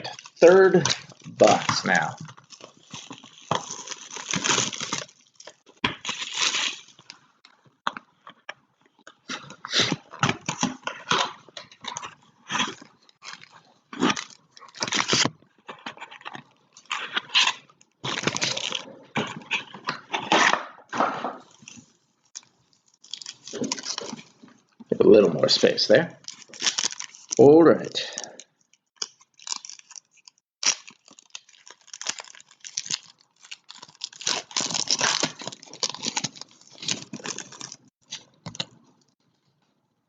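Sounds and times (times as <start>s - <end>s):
packaging tearing and crinkling: 0.0s - 7.2s, 9.4s - 20.6s, 21.4s - 24.4s, 26.2s - 28.4s, 29.0s - 38.8s.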